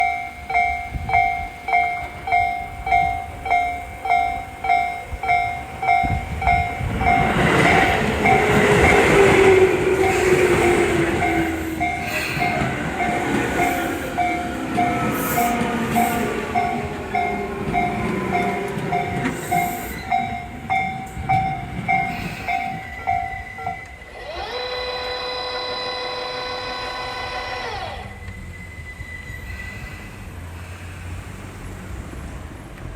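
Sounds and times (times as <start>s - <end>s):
level crossing bell ringing: 0.0s - 27.6s
train wheels and running noise: 0.0s - 32.9s.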